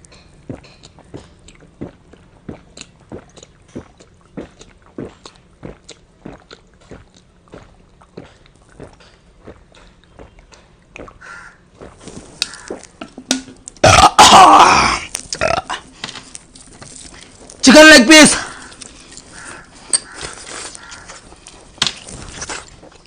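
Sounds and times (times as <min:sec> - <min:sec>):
person chewing food: 0:00.0 - 0:13.0, 0:13.6 - 0:17.6, 0:18.6 - 0:23.0.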